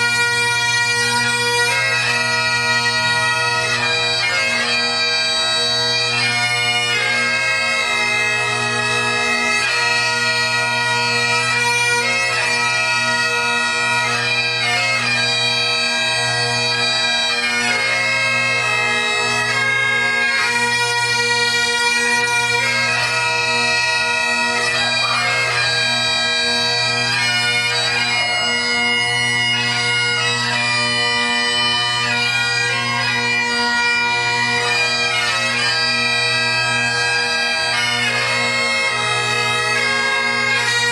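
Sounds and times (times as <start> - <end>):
bagpipes playing a tune: 0.0 - 40.9.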